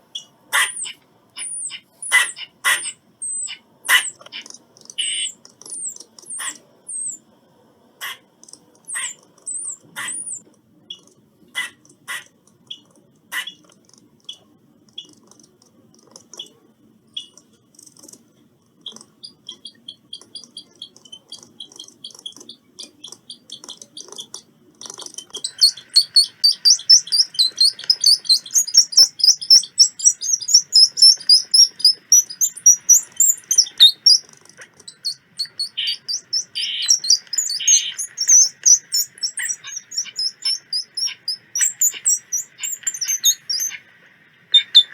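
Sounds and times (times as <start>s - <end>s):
squirrel chirping and chattering: 0.1s - 7.2s, 8.0s - 18.2s, 18.8s - 44.9s.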